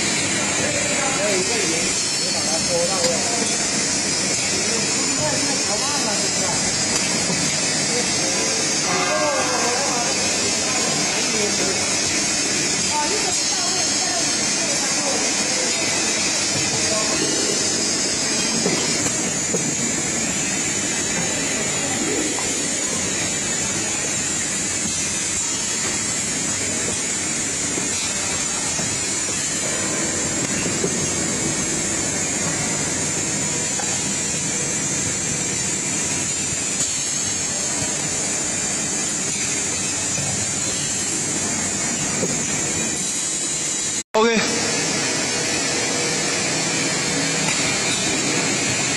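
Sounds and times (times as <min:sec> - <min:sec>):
printing machine running: 0:00.0 - 0:48.9.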